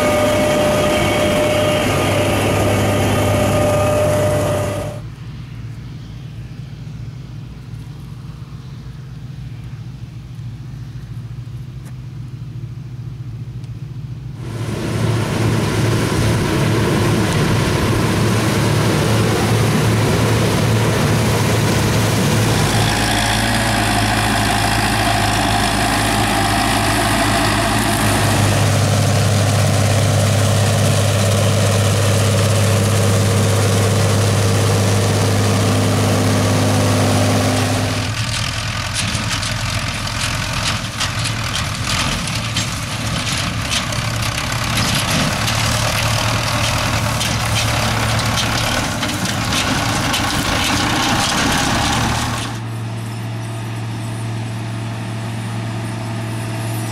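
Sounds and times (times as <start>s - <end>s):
diesel farm machinery running: 0.0s - 56.9s.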